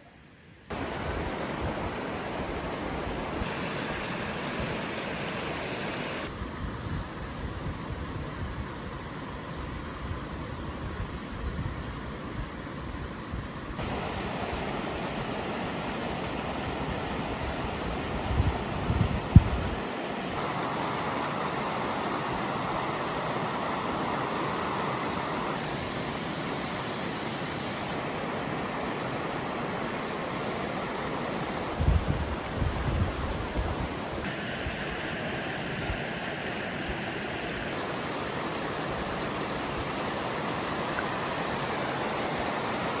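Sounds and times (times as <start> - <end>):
steady outdoor rushing noise: 0.7 - 7.4, 13.7 - 43.0.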